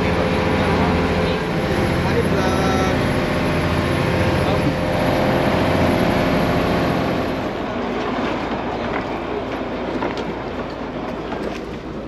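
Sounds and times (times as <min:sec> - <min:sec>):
road vehicle rumble: 0:00.0 - 0:12.0.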